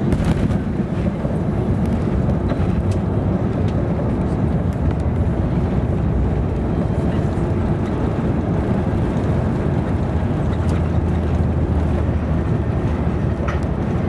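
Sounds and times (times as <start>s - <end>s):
jet engines at takeoff power: 0.0s - 14.0s.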